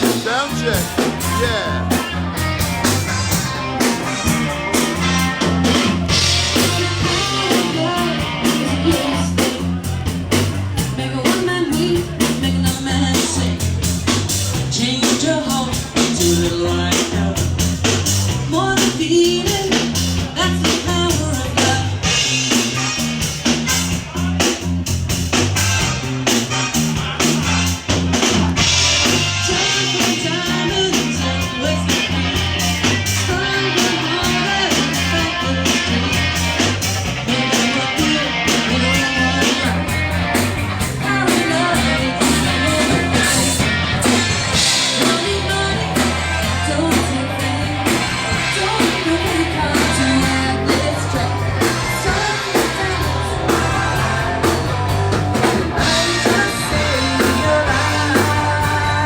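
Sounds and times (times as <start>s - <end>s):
person singing: 0.0s - 13.9s, 14.5s - 17.7s, 28.7s - 59.0s
bass guitar: 0.0s - 59.0s
drum kit: 0.0s - 59.0s
electric guitar: 0.0s - 59.0s.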